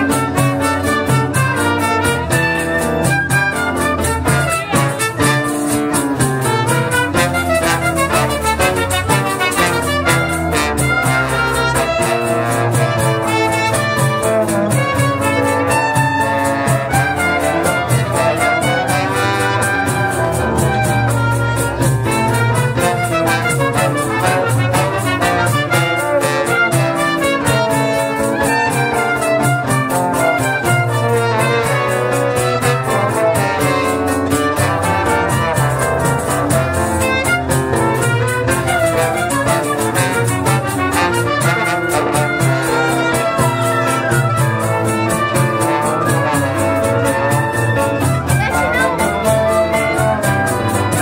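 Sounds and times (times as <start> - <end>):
acoustic guitar accompaniment: 0.0 - 51.0
brass melody: 0.0 - 51.0.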